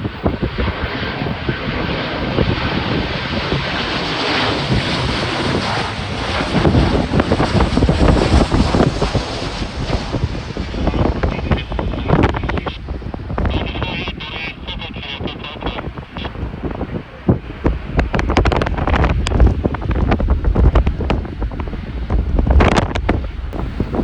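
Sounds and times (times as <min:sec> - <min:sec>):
jet airliner engine noise: 0:00.0 - 0:24.0
wind buffeting microphone: 0:00.0 - 0:24.0.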